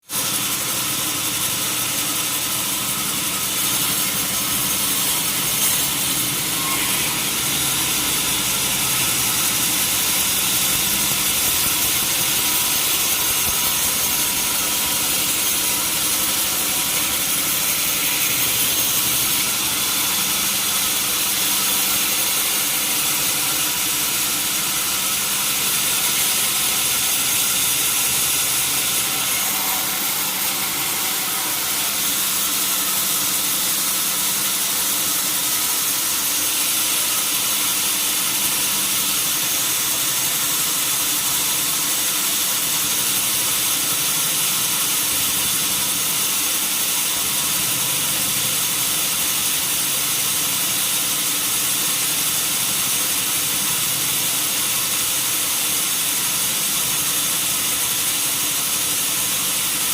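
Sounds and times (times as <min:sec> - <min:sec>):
sawmill machinery hum and hiss: 0:00.0 - 0:59.9.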